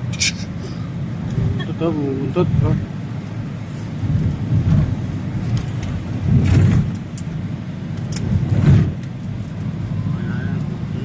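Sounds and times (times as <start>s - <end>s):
road and wind noise inside vehicle: 0.0s - 11.0s.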